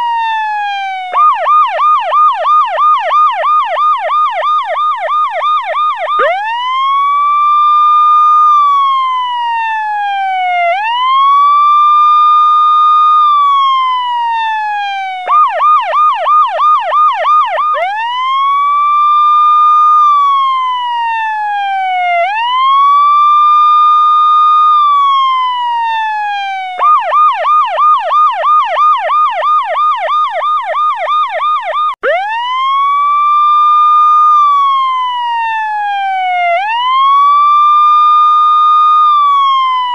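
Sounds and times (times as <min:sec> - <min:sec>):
electronic siren wail: 0:00.0 - 0:39.9
electronic siren yelp: 0:00.0 - 0:39.9.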